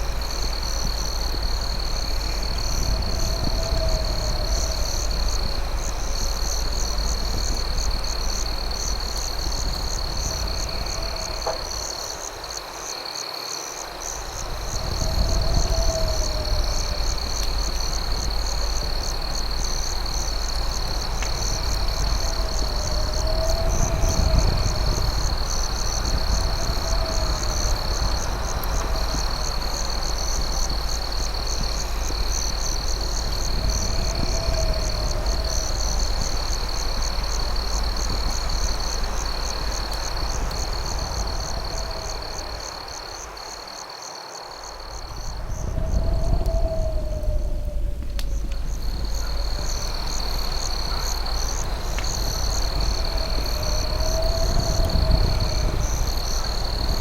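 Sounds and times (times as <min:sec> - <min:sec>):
campfire crackles: 0:00.0 - 0:57.0
crickets chirping: 0:00.0 - 0:57.0.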